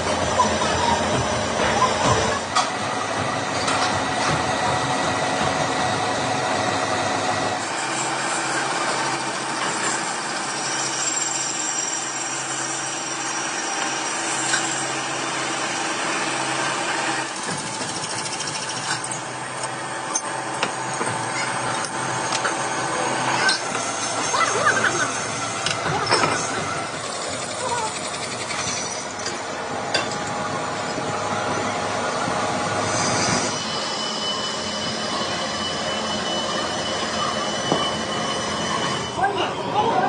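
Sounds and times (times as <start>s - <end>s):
metal cutting noise: 0.0s - 39.6s
lathe machine drone: 0.0s - 40.0s.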